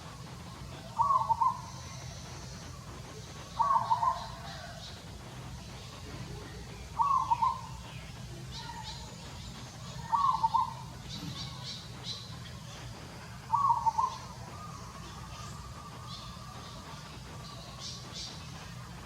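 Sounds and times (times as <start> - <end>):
bird calling: 0.0 - 5.0, 5.6 - 19.0.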